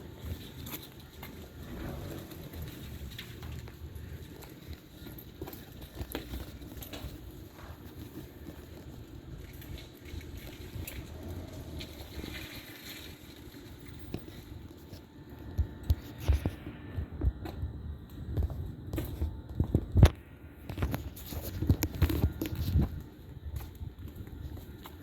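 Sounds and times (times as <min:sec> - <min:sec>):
air conditioning units humming: 0:00.0 - 0:25.0.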